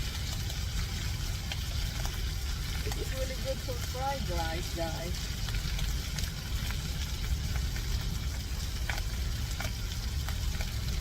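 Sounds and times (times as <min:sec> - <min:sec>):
fish sizzling in hot oil: 0:00.0 - 0:11.0
low rumble: 0:00.0 - 0:11.0
oil popping and crackling: 0:00.0 - 0:11.0.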